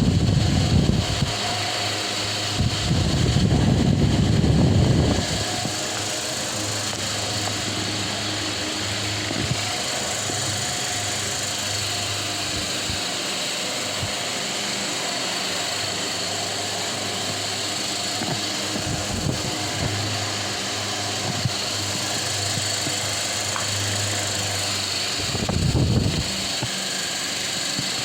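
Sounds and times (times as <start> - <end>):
electric fan whirring: 0.0 - 28.0.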